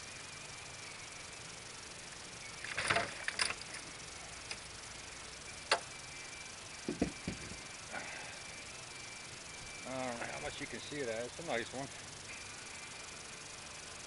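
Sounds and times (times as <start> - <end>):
insect trill: 0.0 - 14.0.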